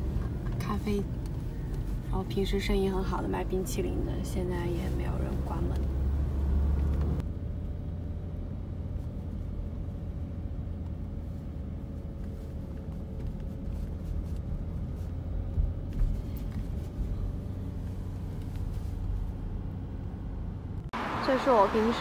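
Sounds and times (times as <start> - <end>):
car cabin engine and road rumble: 0.0 - 22.0.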